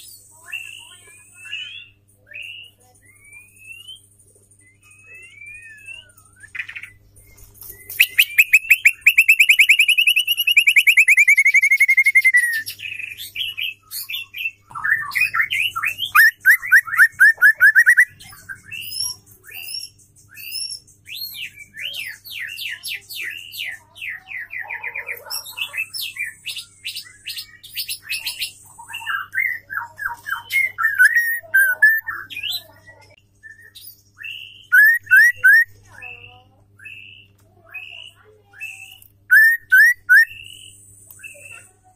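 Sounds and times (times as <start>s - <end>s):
bird singing trills and whistles: 0.0s - 41.8s.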